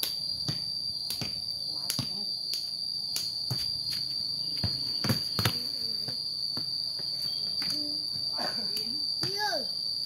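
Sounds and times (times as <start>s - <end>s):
ball kicked on concrete: 0.0s - 8.3s, 9.2s - 9.5s
insects chirring: 0.0s - 10.0s.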